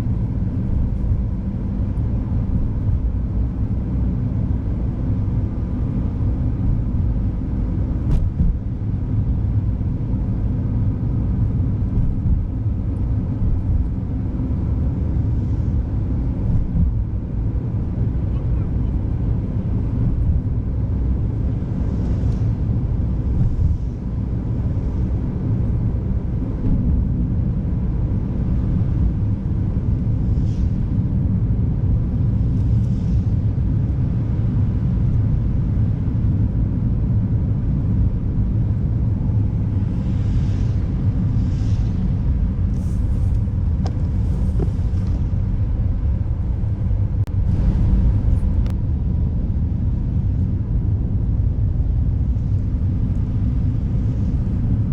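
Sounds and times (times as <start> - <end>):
tyres and engine rumble: 0.0 - 54.9.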